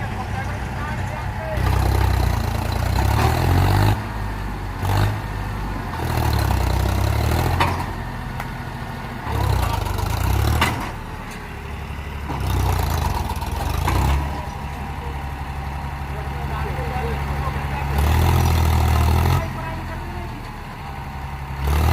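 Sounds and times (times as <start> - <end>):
tractor diesel engine revving: 0.0 - 21.9.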